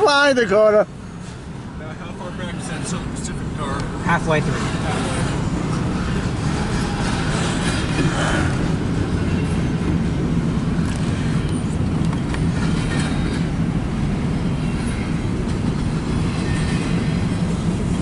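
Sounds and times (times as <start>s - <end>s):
freight train wheels rumbling: 0.0s - 18.0s
clickety-clack over rail joints: 1.2s - 18.0s.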